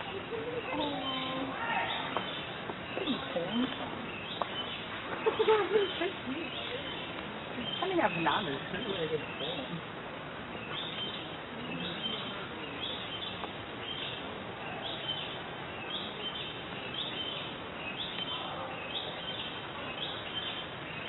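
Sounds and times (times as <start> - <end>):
bird chirping: 0.0 - 9.9, 10.5 - 21.0
outdoor background noise: 0.0 - 21.0.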